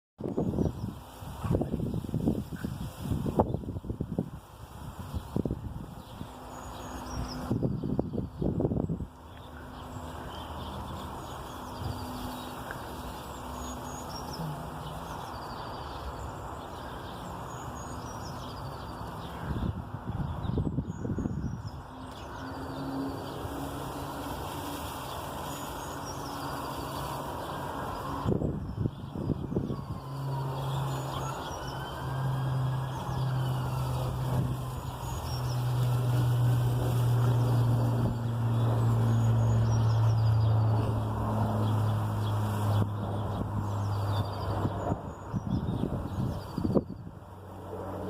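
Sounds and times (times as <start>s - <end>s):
bamboo rustling in wind: 0.2s - 48.0s.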